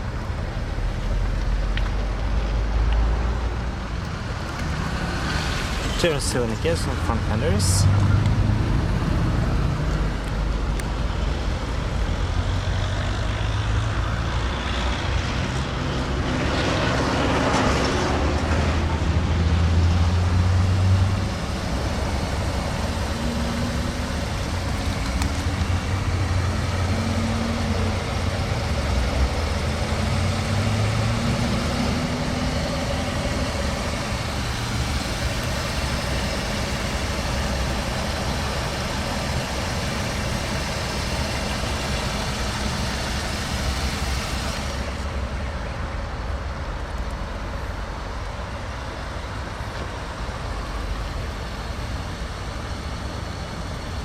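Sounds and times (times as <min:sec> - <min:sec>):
traffic noise: 0:00.0 - 0:54.0
vehicle engine humming: 0:00.0 - 0:54.0.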